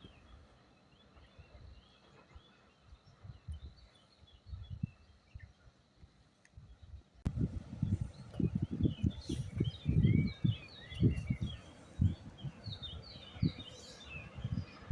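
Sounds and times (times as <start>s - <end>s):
wind buffeting microphone: 0.0s - 5.7s, 6.6s - 14.9s
small birds chirping: 0.0s - 14.9s.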